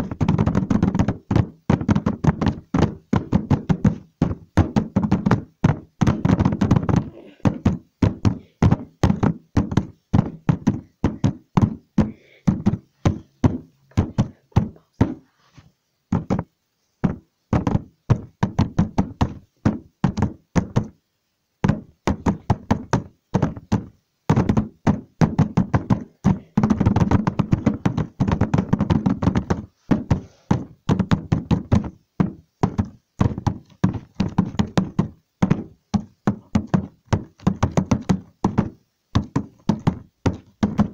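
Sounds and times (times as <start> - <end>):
rapid knocking: 0.0 - 15.3, 16.1 - 21.0, 21.6 - 40.9.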